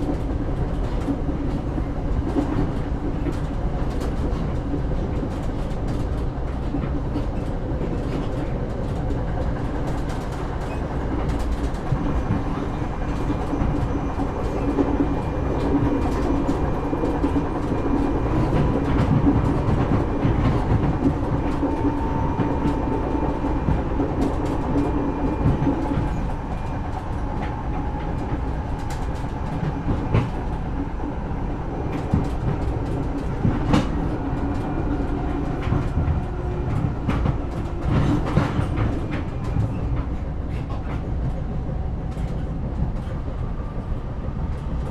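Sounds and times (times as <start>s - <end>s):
train rumbling on tracks: 0.0s - 44.9s.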